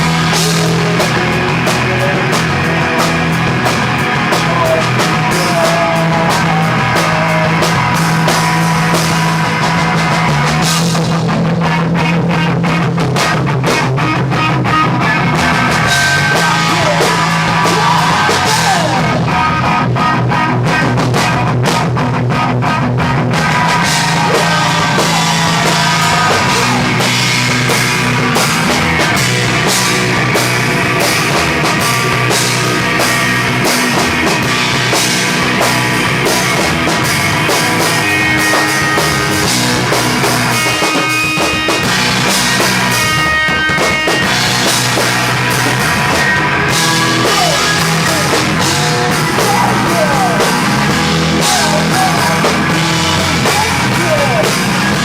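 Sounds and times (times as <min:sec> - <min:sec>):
drum kit fast beat: 0:00.0 - 0:55.0
live rock band playing: 0:00.0 - 0:55.0.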